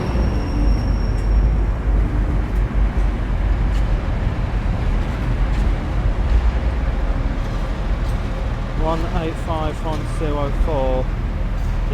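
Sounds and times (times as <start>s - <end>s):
diesel train engine rumbling: 0.0s - 11.9s.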